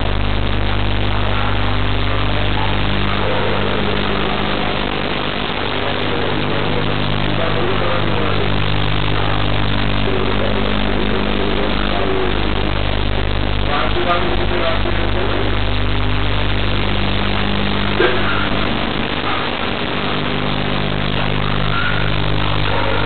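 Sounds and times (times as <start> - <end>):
low electrical hum: 0.0 - 23.0
steady hiss: 0.0 - 23.0.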